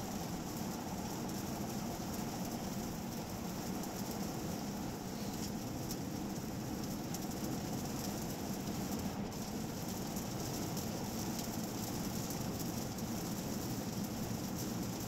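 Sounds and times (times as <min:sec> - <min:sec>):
car interior road noise: 0:00.0 - 0:15.0.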